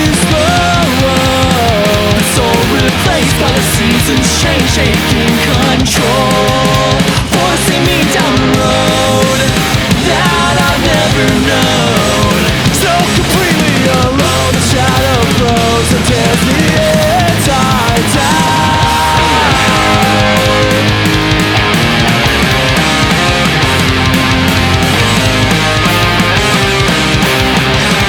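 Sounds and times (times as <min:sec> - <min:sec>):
bass guitar: 0:00.0 - 0:28.0
distorted electric guitars: 0:00.0 - 0:28.0
drums and cymbals: 0:00.0 - 0:28.0.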